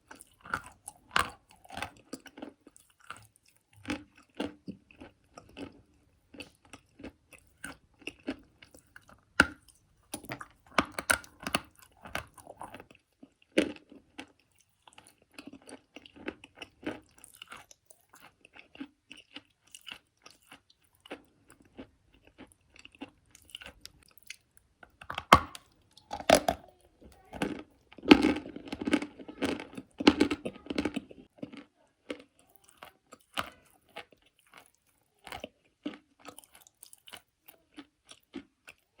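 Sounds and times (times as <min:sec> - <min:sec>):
chewing gritty crunches: 0:00.0 - 0:39.0.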